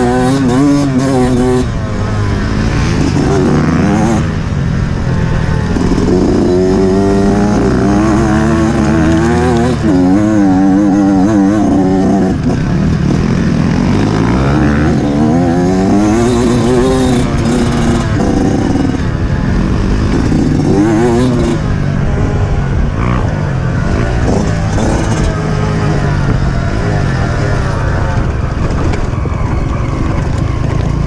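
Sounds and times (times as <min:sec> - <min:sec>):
off-road motorcycle engine revving: 0:00.0 - 0:31.0.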